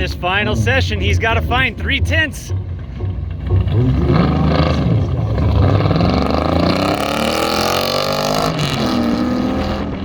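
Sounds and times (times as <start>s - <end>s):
truck engine accelerating: 0.0s - 10.0s.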